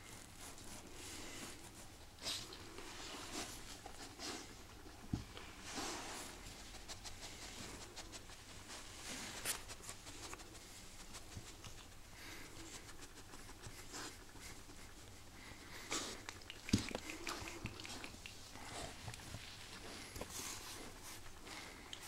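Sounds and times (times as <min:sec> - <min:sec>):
faint rustling: 0:00.0 - 0:22.0
pet animal sniffing: 0:00.0 - 0:22.0.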